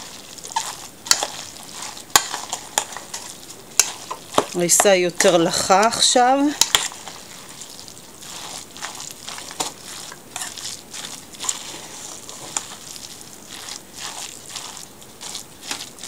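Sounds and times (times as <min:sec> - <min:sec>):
wet mixture stirred in steel bowl: 0:00.0 - 0:16.0.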